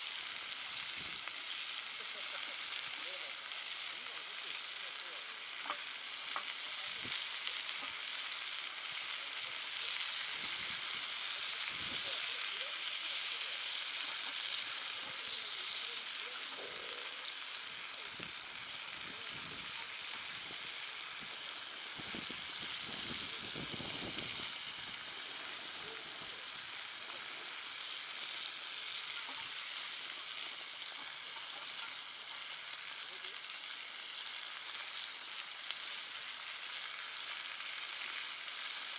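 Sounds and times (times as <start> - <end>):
meat sizzling on grill pan: 0.0 - 38.9.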